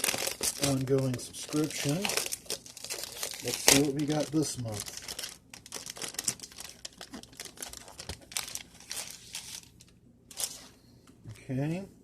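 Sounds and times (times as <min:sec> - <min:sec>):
packaging crinkling and tearing: 0:00.0 - 0:10.6.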